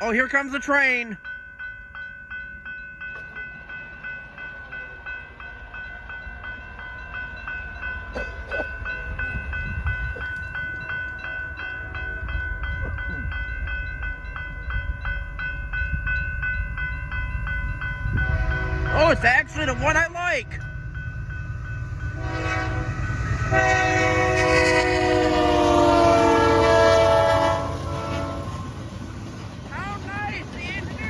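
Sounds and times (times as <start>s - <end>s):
crossing bell ringing: 0.0s - 31.0s
freight train rumble: 0.0s - 31.0s.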